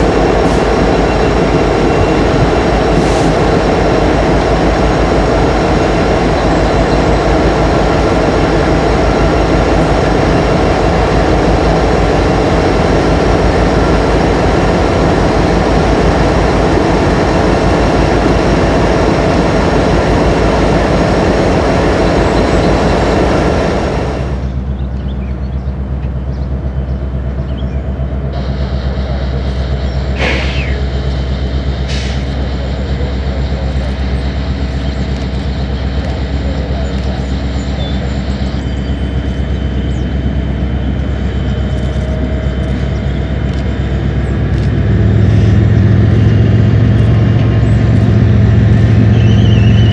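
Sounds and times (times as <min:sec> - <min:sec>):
low engine hum: 0:00.0 - 0:49.9
train wheels rumbling: 0:00.0 - 0:49.9.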